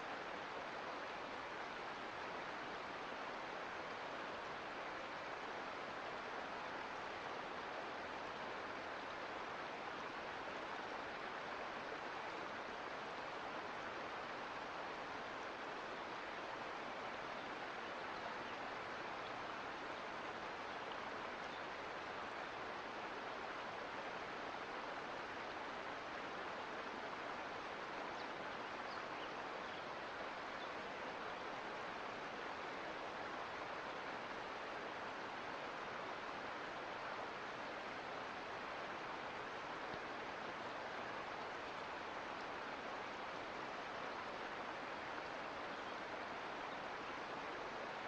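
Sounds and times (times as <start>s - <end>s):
creek water flowing over rocks: 0.0s - 48.0s.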